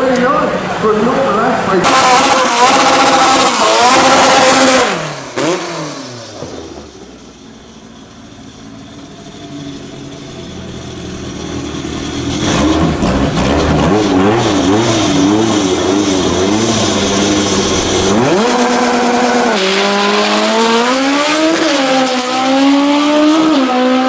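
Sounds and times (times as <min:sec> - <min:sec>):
car engine revving: 0:00.0 - 0:24.0
drag racing car engine: 0:00.0 - 0:24.0.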